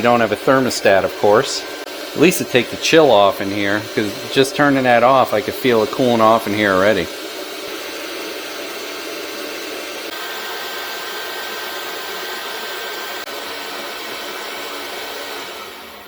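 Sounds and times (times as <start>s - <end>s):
heater blower fan running: 0.0s - 16.0s.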